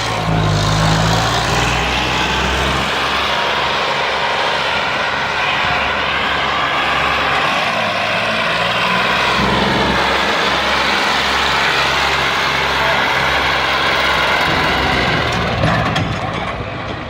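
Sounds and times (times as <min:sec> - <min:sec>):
tractor engine running hard: 0:00.0 - 0:17.0.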